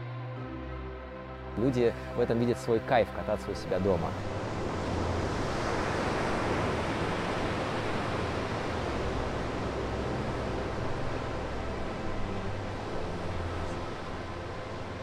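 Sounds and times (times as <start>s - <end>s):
waves breaking: 1.6s - 15.0s.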